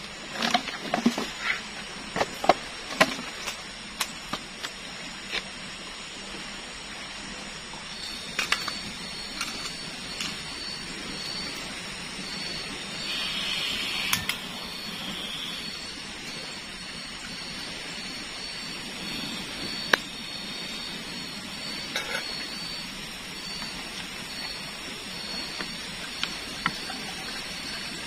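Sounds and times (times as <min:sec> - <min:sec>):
faint high pulsing tone: 0:00.0 - 0:28.0.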